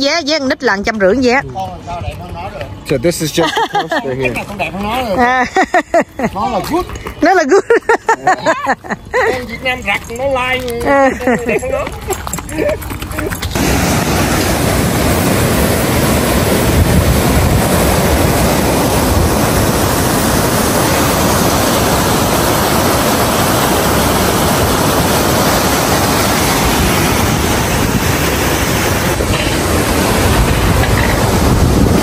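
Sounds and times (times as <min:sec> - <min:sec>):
rapids and waterfall roaring: 0:02.2 - 0:32.0.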